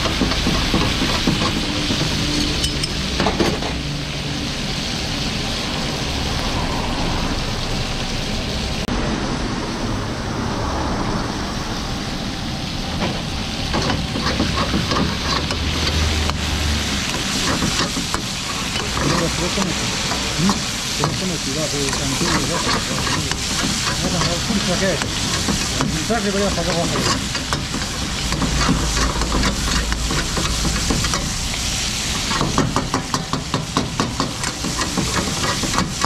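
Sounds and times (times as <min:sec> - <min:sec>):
meat sizzling in hot oil: 0:00.0 - 0:08.9, 0:11.6 - 0:36.0.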